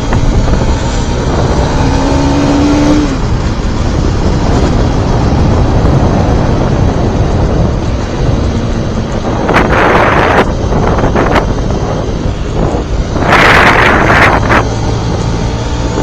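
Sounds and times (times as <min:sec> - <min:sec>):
motorcycle engine: 0:00.0 - 0:16.0
wind buffeting microphone: 0:00.0 - 0:16.0.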